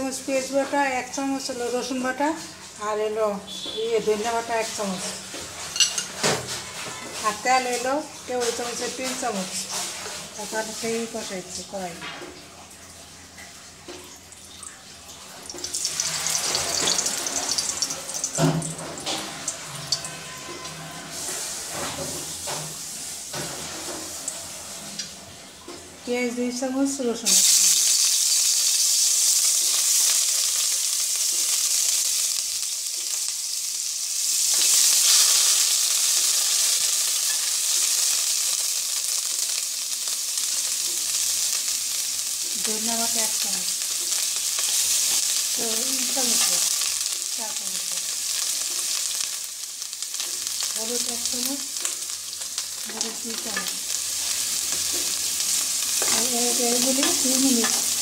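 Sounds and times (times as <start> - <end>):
paste sizzling in hot oil: 0.0 - 11.9, 14.4 - 25.2, 26.9 - 58.0.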